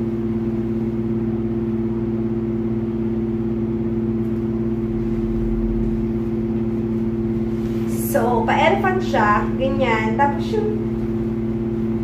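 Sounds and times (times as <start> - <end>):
two-pitch mechanical hum: 0.0 - 12.0.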